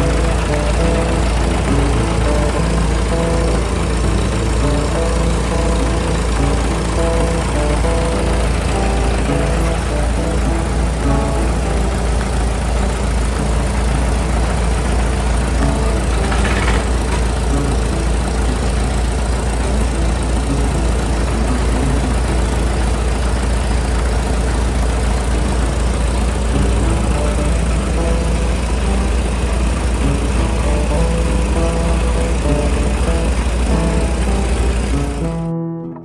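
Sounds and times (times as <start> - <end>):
tractor engine idling: 0.0 - 35.8.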